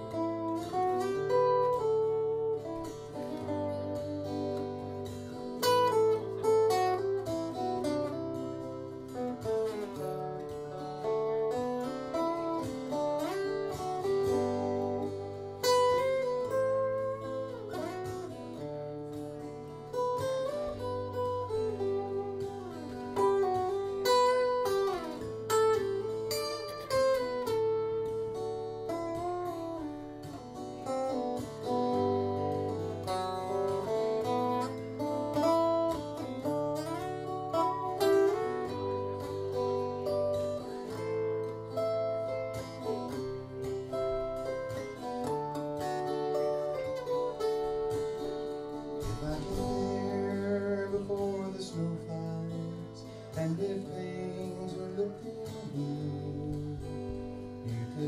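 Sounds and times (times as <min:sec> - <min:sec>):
acoustic guitar picked melody: 0:00.0 - 0:58.0.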